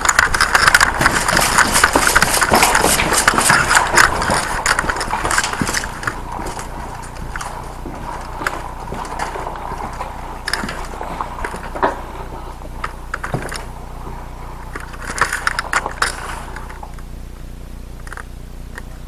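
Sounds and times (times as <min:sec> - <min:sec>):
gear rattling: 0:00.0 - 0:17.0
hurried footsteps on hard floor: 0:00.0 - 0:17.0.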